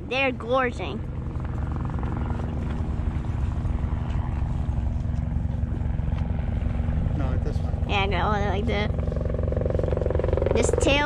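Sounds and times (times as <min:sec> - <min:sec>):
low pulsing engine drone: 0:00.0 - 0:11.0.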